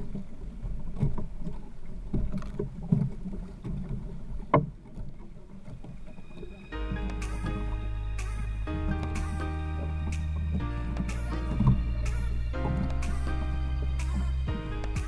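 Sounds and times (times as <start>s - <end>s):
sea water sloshing around boat: 0.0s - 15.0s.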